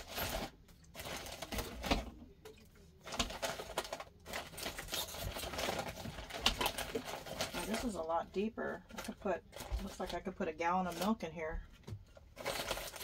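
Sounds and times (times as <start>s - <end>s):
groceries clicking and rustling: 0.0s - 13.0s.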